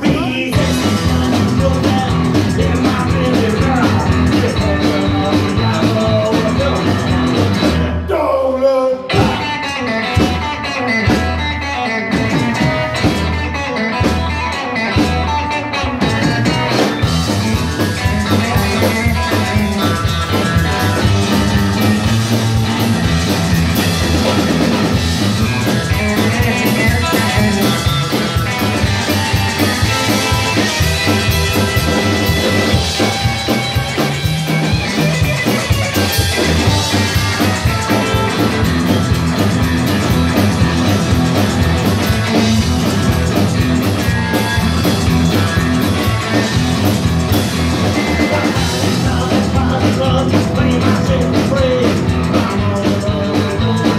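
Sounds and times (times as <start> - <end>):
live rockabilly band playing: 0.0 - 53.9.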